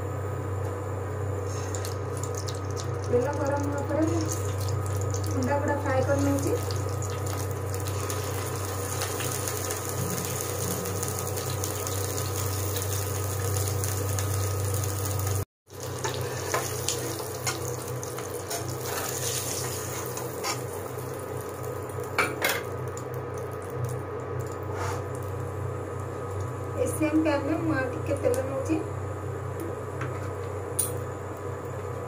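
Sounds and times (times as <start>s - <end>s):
steady low hum: 0.0s - 32.0s
eggs sizzling in hot oil: 1.4s - 27.6s.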